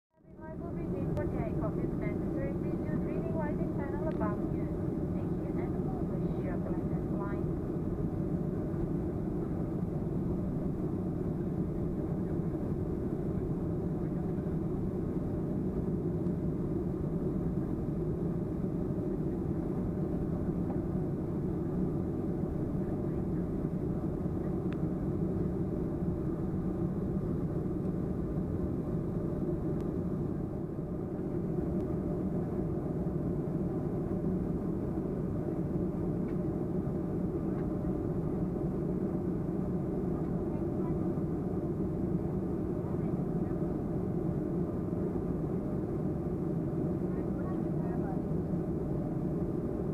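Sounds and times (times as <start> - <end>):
airliner cabin drone: 0.2 - 49.9
faint hum of steady tones: 0.2 - 49.9.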